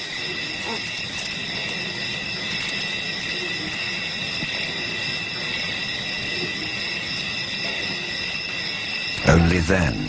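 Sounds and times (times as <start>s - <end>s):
night insects chorus: 0.0s - 10.0s.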